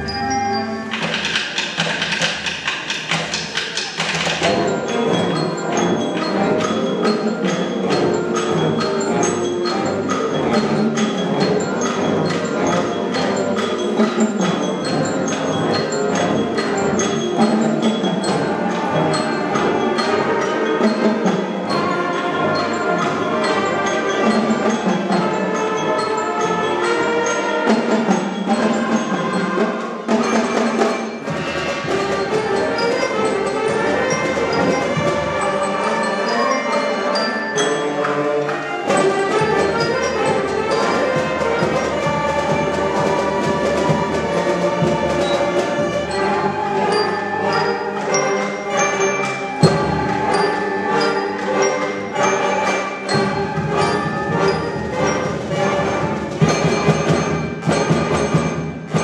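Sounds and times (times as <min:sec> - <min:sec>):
concert band playing: 0:00.0 - 0:59.0
ticking percussion beat: 0:00.0 - 0:59.0.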